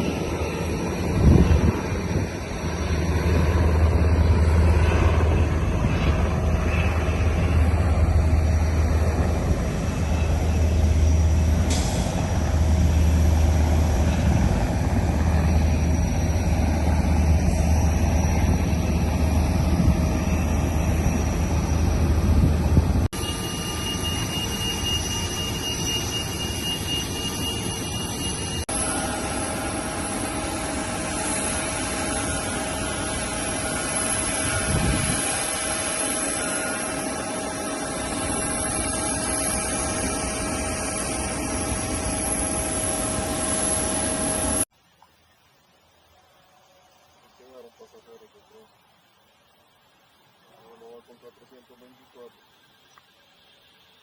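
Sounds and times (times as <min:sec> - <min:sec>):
jet engines rumbling: 0:00.0 - 0:44.7
thin high engine whine: 0:00.0 - 0:44.7.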